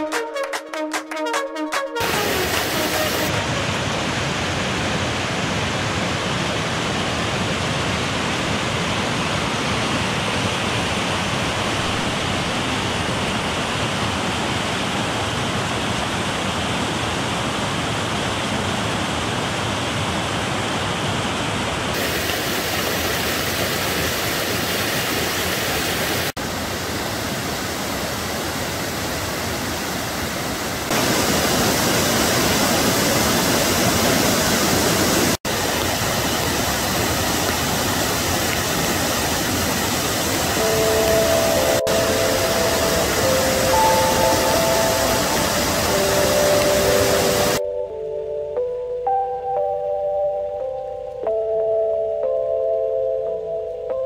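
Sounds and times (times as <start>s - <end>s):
floodwater rushing down waterfall: 2.0s - 47.6s.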